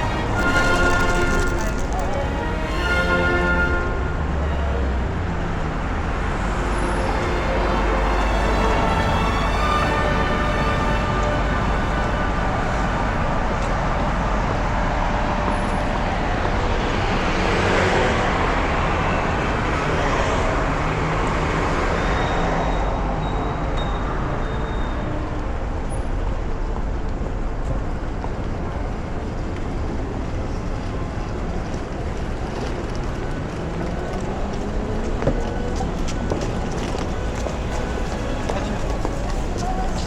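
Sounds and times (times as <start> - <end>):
passing vehicles: 0.0 - 40.0.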